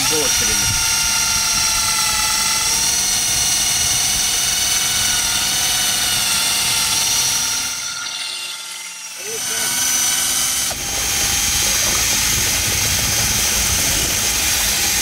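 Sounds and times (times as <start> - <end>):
cordless drill motor whine: 0.0 - 15.0.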